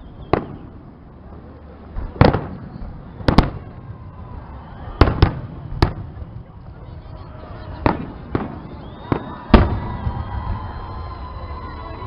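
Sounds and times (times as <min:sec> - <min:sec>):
fireworks bangs: 0:00.0 - 0:11.7.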